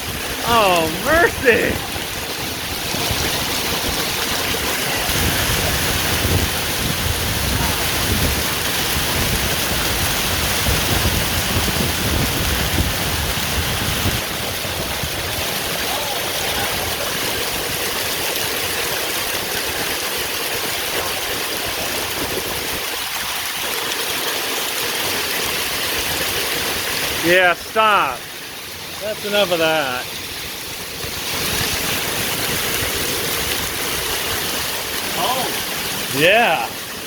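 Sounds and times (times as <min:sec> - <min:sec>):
heavy rain and hail: 0:00.0 - 0:37.0.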